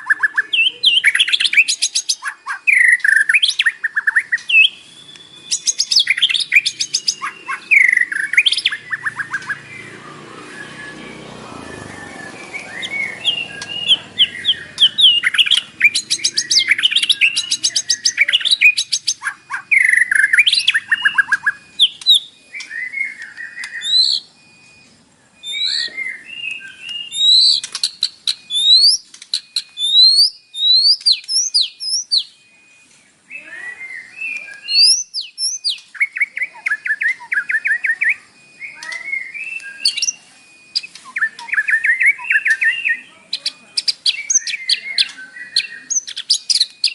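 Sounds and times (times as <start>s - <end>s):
songbird singing trills and whistles: 0.0s - 46.9s.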